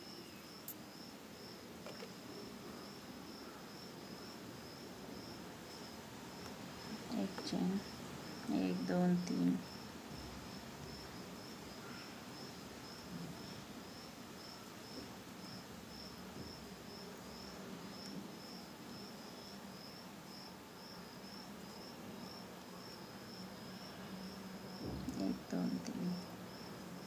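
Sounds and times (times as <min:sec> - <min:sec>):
insect chirping: 0:00.0 - 0:27.0.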